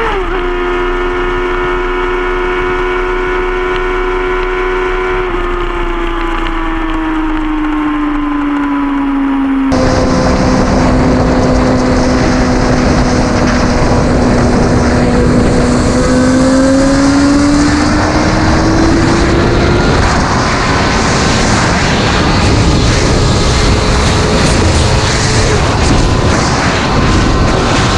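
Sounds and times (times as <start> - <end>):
motorcycle engine accelerating: 0.0 - 27.9
wind rushing over microphone: 2.6 - 27.9.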